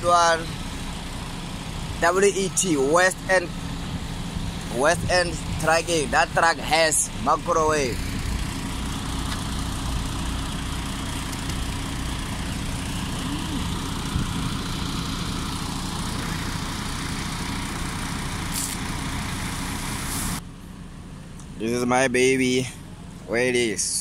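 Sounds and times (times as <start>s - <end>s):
diesel truck engines idling: 0.0s - 24.0s.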